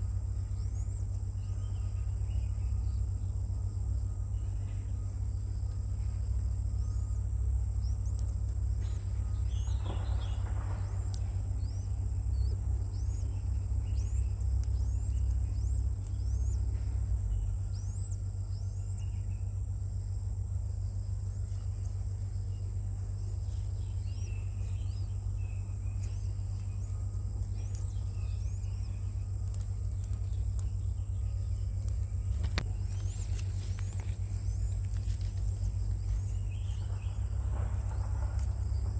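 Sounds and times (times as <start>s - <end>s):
high-pitched insect drone: 0.0s - 38.9s
low rumble: 0.0s - 38.9s
rising bird chirps: 0.1s - 19.7s, 20.7s - 38.9s.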